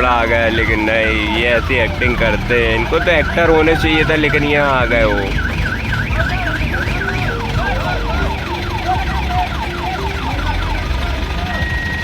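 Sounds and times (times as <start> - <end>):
electronic vehicle sirens: 0.0 - 12.0
heavy engines rumbling: 0.0 - 12.0.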